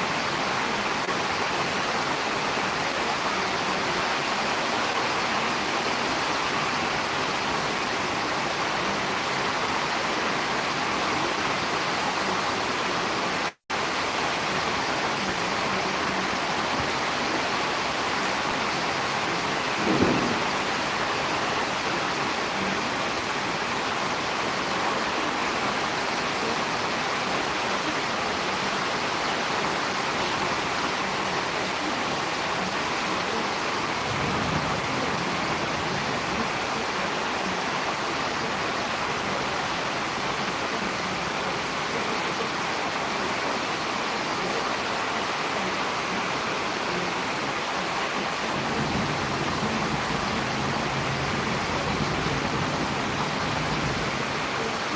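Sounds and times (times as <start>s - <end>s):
rain hissing: 0.0s - 54.9s.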